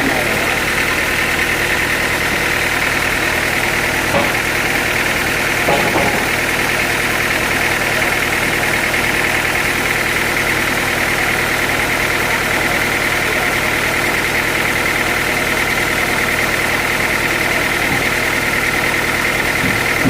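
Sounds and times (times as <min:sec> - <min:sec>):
sawmill machinery whining: 0:00.0 - 0:20.0.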